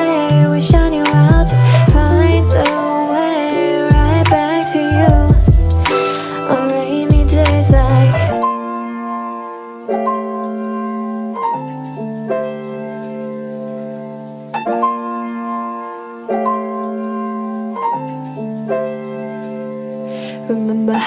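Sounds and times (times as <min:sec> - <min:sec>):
held keyboard chords: 0:00.0 - 0:20.8.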